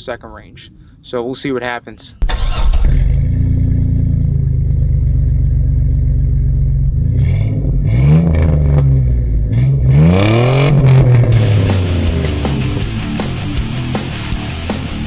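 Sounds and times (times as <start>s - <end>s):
truck engine idling and revving: 2.2s - 15.0s.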